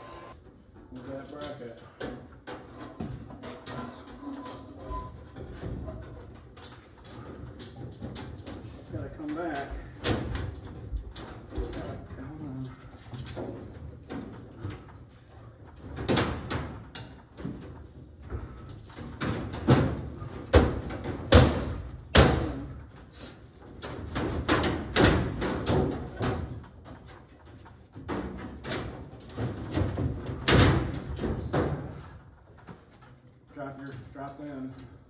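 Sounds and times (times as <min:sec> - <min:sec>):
metal ductwork bangs and rattles: 0:00.3 - 0:35.0.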